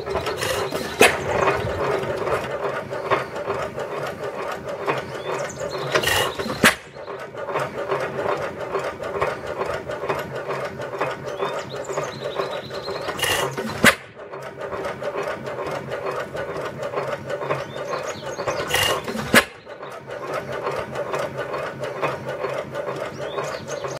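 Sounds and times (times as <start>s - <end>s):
engine valve gear clattering: 0.0s - 23.9s.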